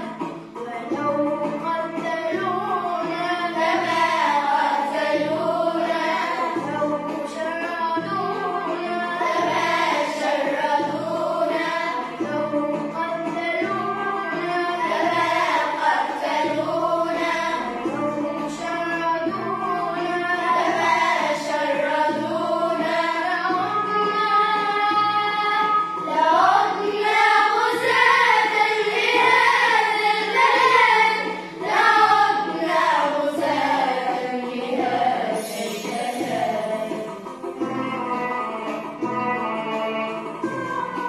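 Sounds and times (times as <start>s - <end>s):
girls choir singing: 0.0s - 37.6s, 40.2s - 41.0s
instrumental accompaniment: 0.0s - 41.0s.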